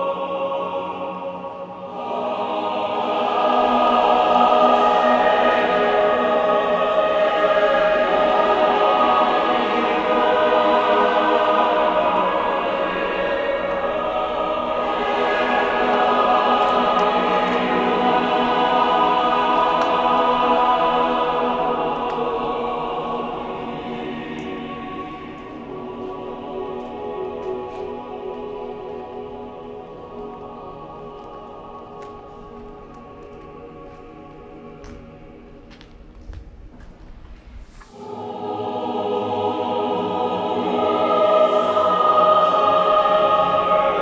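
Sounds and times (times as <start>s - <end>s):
choir-like voices holding chords: 0.0s - 36.1s, 37.9s - 44.0s.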